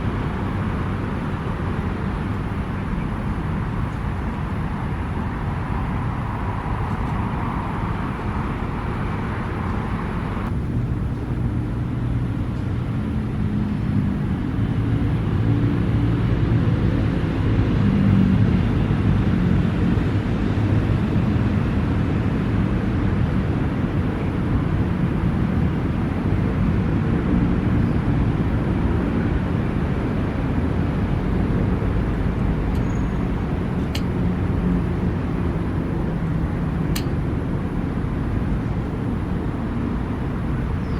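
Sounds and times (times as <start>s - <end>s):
distant traffic rumble: 0.0s - 40.9s
low engine drone: 0.0s - 40.9s.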